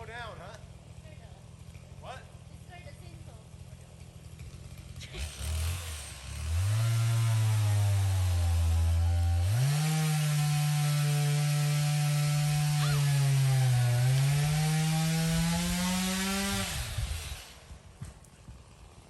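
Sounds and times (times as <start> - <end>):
chainsaw cutting wood: 3.5 - 19.0.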